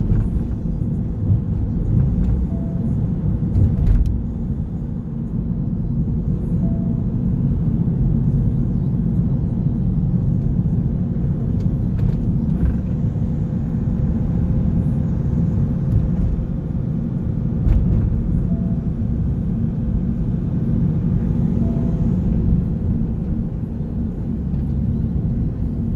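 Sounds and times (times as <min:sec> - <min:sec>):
car engine and road rumble: 0:00.0 - 0:25.9.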